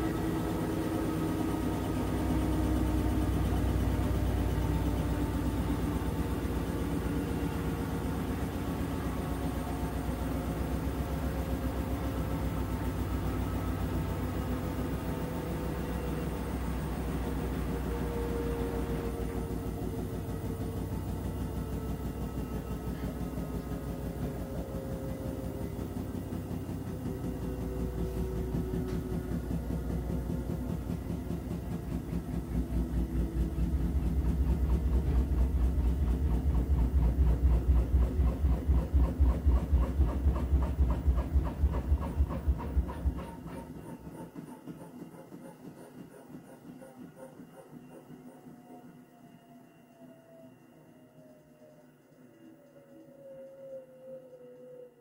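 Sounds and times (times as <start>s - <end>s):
washing machine motor whine: 0.0s - 55.0s.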